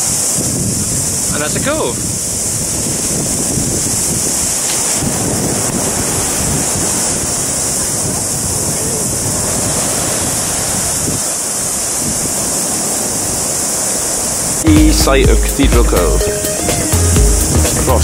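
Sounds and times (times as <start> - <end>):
wind buffeting microphone: 0.0 - 14.7
surf washing on beach: 0.0 - 18.0.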